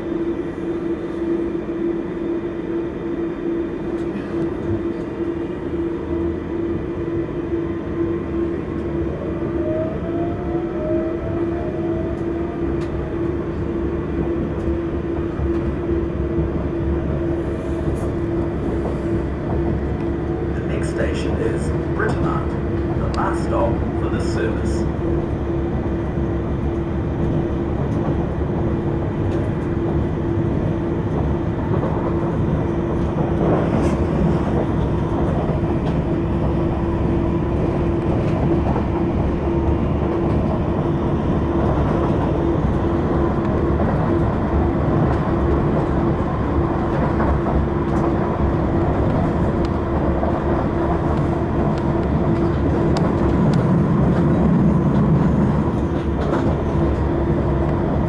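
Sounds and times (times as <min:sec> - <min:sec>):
train drive hum: 0:00.0 - 0:58.0
train wheels rumbling on track: 0:00.0 - 0:58.0.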